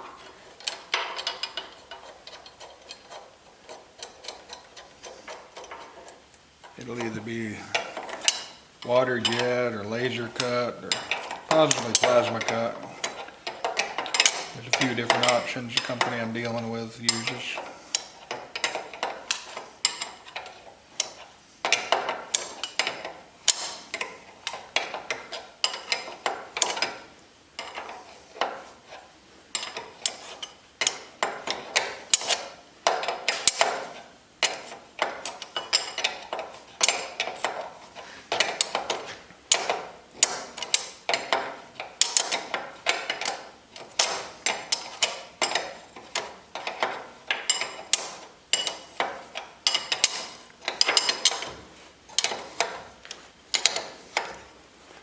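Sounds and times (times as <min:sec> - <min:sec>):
metal tools clinking: 0:00.0 - 0:28.9, 0:29.5 - 0:55.0.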